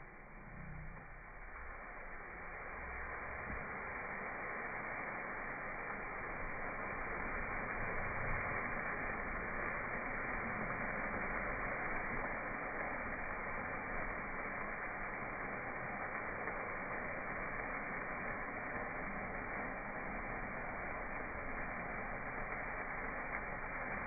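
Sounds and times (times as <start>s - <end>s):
meat sizzling on grill: 0.0s - 24.0s.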